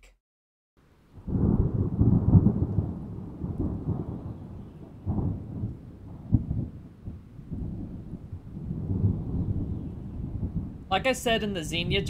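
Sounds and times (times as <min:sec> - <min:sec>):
thunder rumbling: 0:01.2 - 0:12.0.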